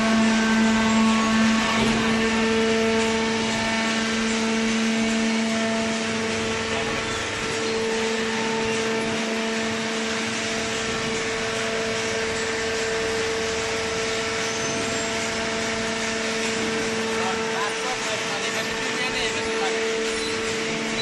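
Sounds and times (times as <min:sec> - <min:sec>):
baler machine humming: 0:00.0 - 0:21.0.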